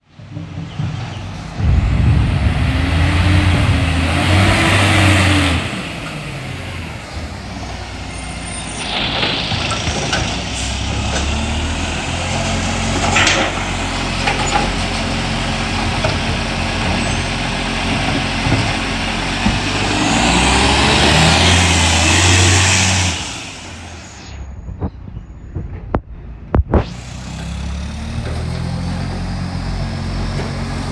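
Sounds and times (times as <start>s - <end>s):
diesel truck engine revving: 1.1s - 24.6s, 26.7s - 30.9s.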